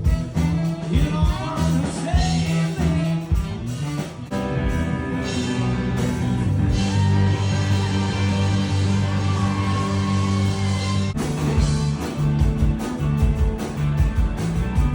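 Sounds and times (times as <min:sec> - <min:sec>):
rock music with singing: 0:00.0 - 0:14.9.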